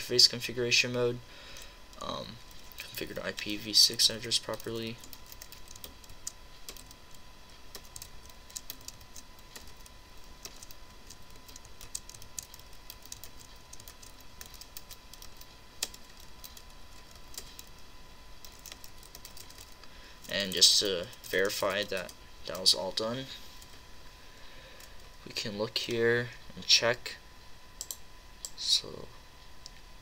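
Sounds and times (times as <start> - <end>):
computer high whine: 0.0 - 29.2.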